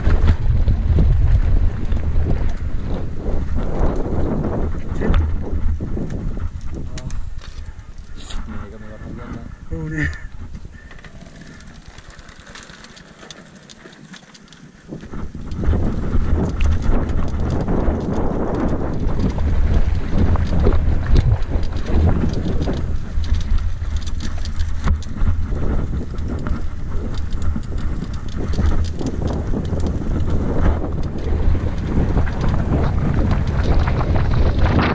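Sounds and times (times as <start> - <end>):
bike rattling over stones: 0.0 - 34.9
wind buffeting microphone: 0.0 - 34.9.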